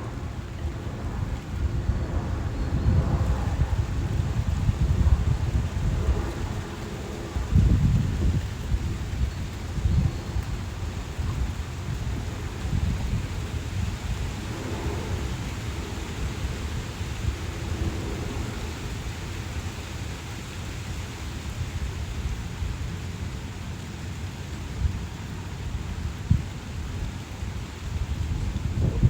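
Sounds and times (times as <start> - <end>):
wind buffeting microphone: 0.0 - 23.5, 24.6 - 29.0.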